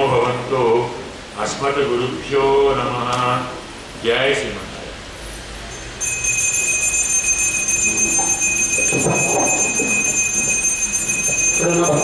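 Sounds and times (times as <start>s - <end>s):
high-pitched microphone feedback whine: 0.0s - 12.0s.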